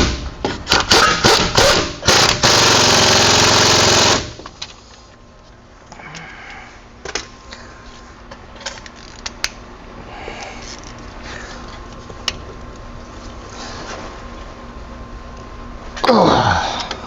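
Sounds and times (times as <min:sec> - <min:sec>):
faint steady hum: 0:02.0 - 0:17.0.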